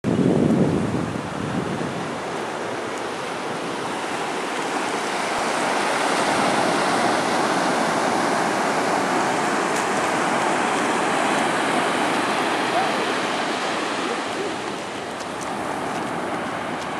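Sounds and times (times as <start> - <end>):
ocean surf breaking on beach: 0.1 - 16.9.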